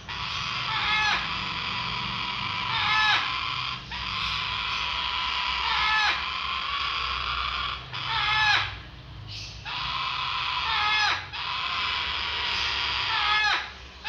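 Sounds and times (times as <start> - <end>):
parrot chicks raspy begging calls: 0.0 - 14.0.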